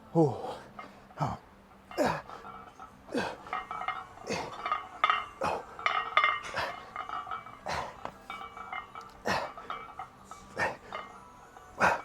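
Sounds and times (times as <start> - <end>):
weight plates clinking: 0.2 - 12.0.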